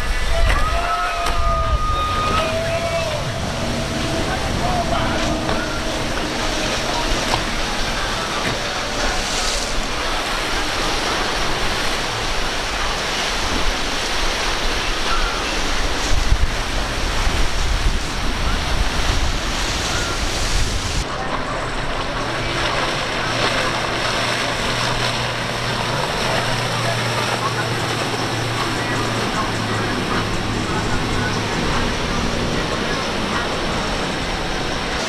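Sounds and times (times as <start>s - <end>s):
waves breaking: 0.0s - 35.0s
wind on microphone: 0.0s - 35.0s.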